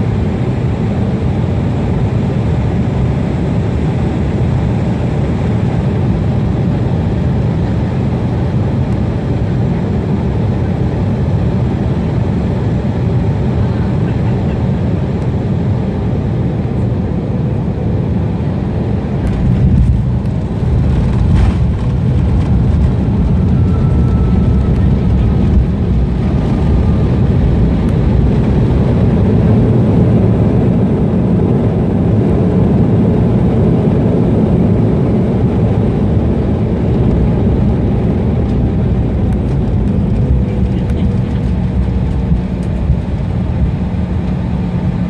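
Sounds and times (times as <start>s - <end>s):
jet engine rumble in cabin: 0.0s - 45.0s.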